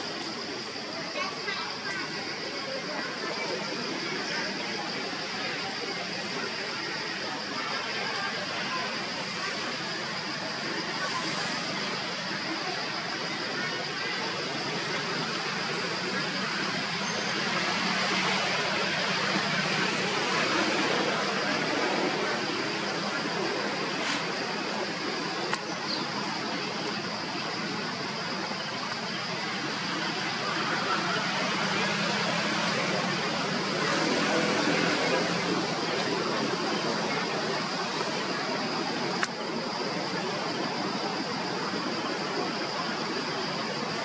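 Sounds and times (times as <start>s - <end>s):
constant high-pitched tone: 0.0s - 44.0s
rushing outdoor ambience: 0.0s - 44.0s.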